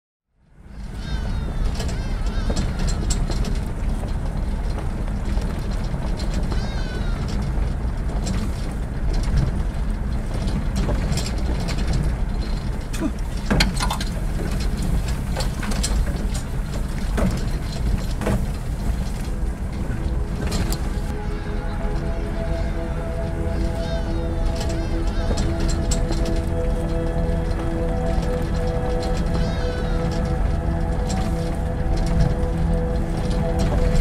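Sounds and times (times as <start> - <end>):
vehicle low rumble: 0.3 - 34.0.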